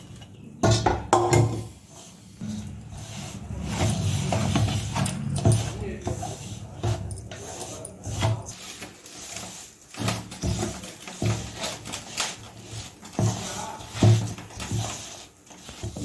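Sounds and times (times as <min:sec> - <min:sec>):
spoon scraping dough in steel bowl: 0:00.0 - 0:16.0.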